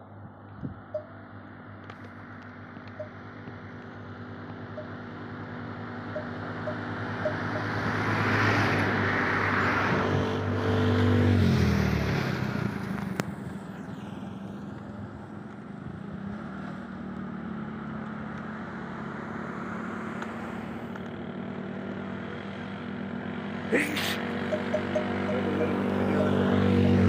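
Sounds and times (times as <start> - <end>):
vehicle engine passing: 4.1 - 27.0.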